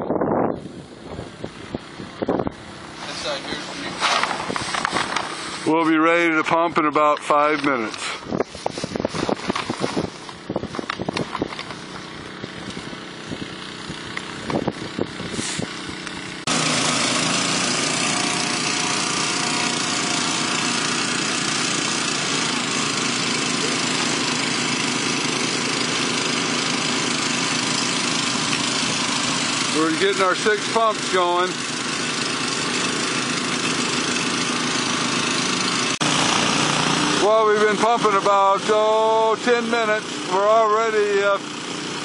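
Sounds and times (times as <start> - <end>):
water pump engines running: 0.6 - 42.0.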